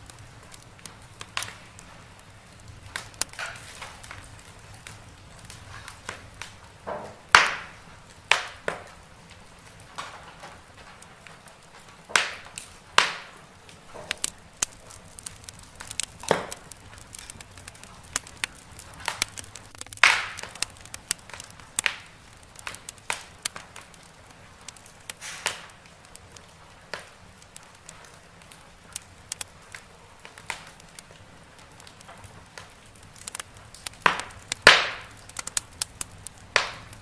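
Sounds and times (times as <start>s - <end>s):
faint steady hiss: 0.0s - 37.0s
wood fire snapping and popping: 0.0s - 37.0s.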